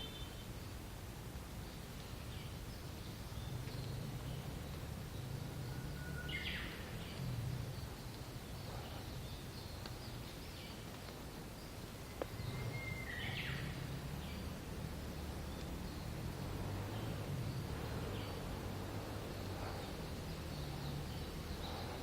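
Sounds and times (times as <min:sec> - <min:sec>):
bird singing: 0:00.0 - 0:00.8, 0:01.6 - 0:22.0
wind rumble on microphone: 0:00.0 - 0:22.0.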